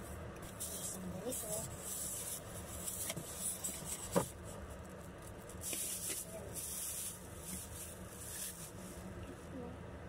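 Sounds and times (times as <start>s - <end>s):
plastic bag rustling: 0.6s - 9.1s.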